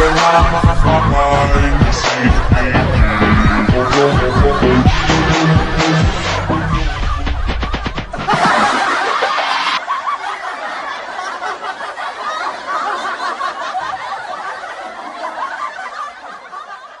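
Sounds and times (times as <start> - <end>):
high-pitched wavering laughter: 2.0 - 17.0.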